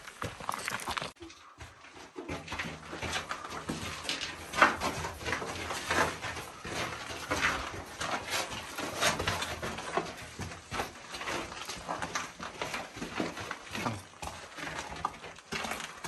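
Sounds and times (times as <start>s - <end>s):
footsteps on rock: 0.0s - 16.0s.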